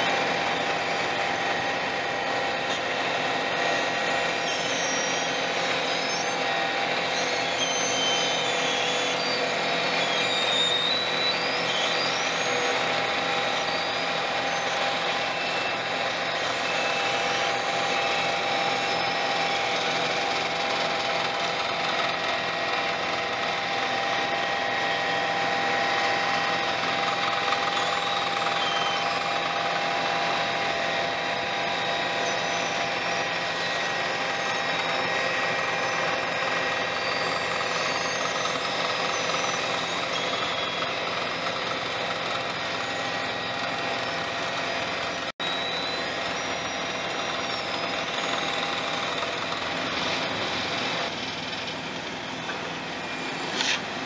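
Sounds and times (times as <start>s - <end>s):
asphalt paver droning and whining: 0.0s - 54.0s
short high squeaks: 0.0s - 54.0s.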